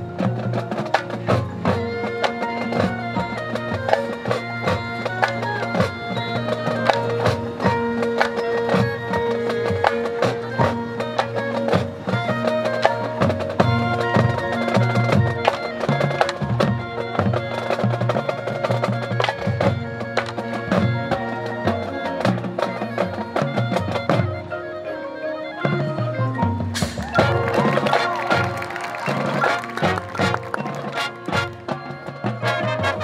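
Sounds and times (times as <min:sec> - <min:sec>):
mallet percussion notes: 0:00.0 - 0:33.0
marching band playing: 0:00.0 - 0:33.0.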